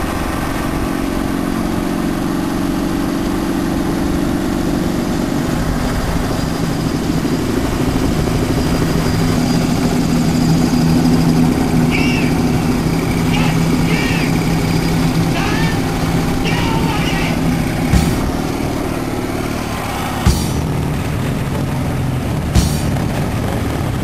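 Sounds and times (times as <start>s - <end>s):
road and wind noise: 0.0s - 24.0s
vehicle engine running: 0.0s - 24.0s.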